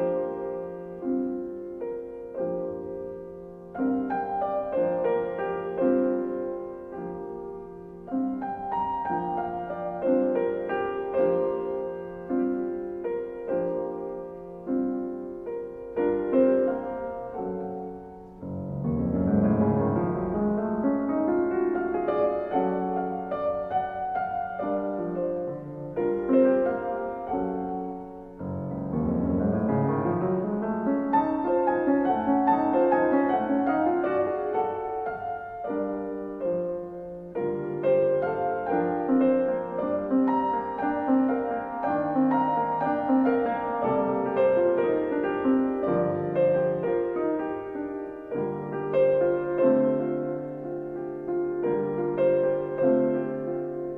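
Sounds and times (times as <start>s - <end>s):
gentle piano music: 0.0s - 53.9s.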